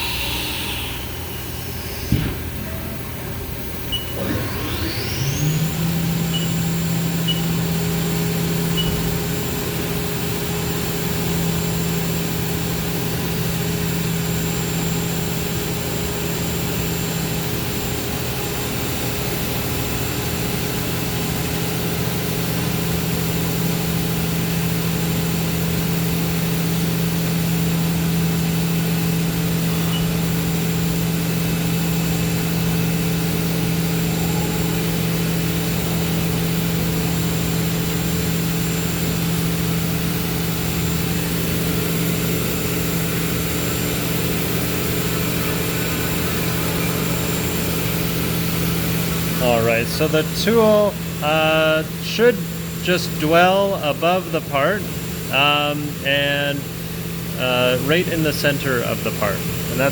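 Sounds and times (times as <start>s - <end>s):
milling machine spindle humming: 0.0s - 56.0s.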